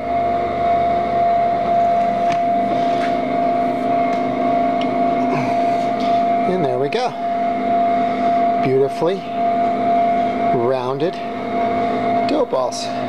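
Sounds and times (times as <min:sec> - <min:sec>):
electric motor hum and whine: 0:00.0 - 0:13.0.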